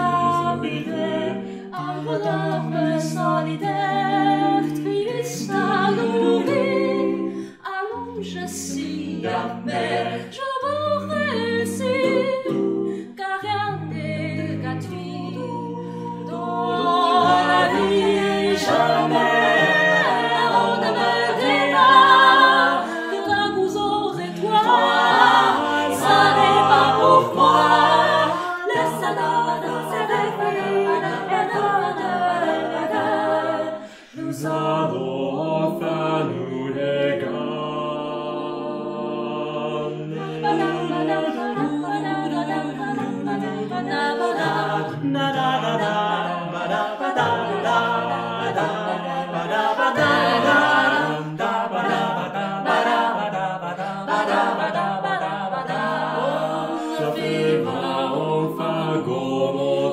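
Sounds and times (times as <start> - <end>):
a cappella ensemble singing harmony: 0.0 - 59.9.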